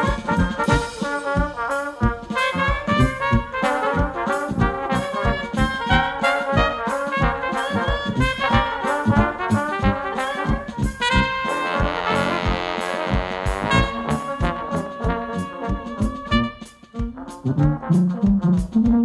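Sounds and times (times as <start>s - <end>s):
traditional jazz band playing: 0.0s - 19.0s.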